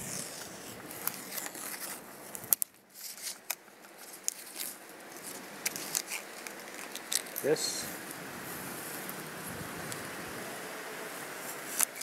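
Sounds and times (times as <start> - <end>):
tape peeling and crinkling: 0.0 - 10.2, 11.2 - 12.0.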